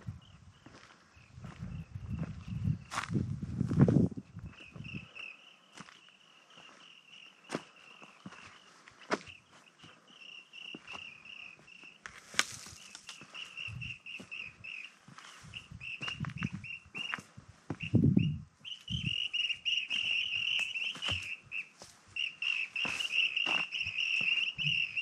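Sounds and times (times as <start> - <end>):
footsteps crunching on rocky track: 0.0 - 5.1, 5.8 - 10.1, 10.7 - 18.0, 19.7 - 25.0
birds chirping: 4.4 - 25.0.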